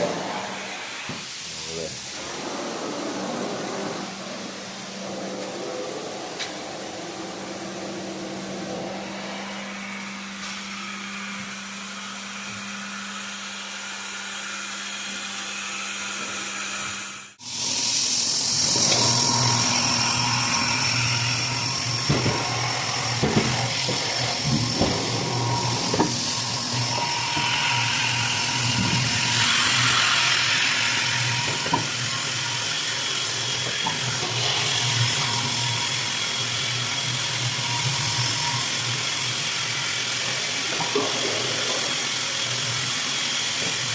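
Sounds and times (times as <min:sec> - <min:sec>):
floor polishing machine running: 0:00.0 - 0:43.9.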